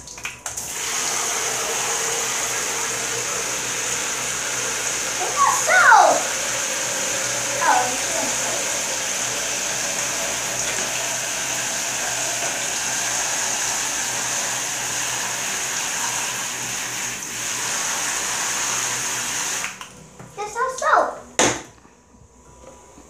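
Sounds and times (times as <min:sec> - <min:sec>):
shower spraying water: 0:00.0 - 0:21.1.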